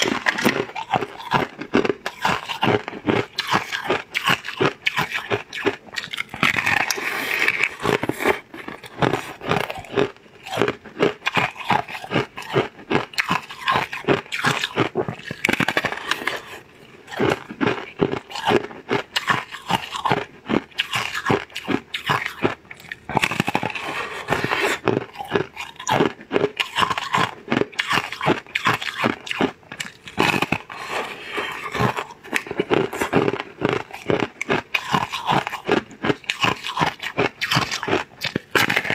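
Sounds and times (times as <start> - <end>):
crunchy chewing of crisp: 0.0 - 38.9.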